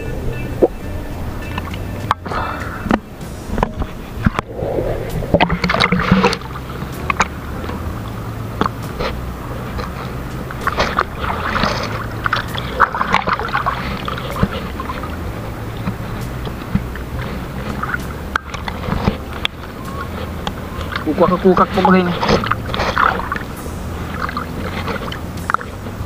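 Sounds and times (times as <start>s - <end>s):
small boat engine running: 0.0s - 26.0s
knocks and splashes: 1.5s - 26.0s.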